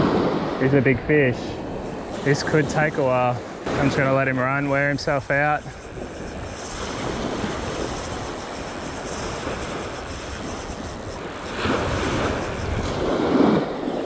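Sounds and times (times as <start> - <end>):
small waves washing on beach: 0.0 - 14.0
wind rumbling on microphone: 0.0 - 14.0.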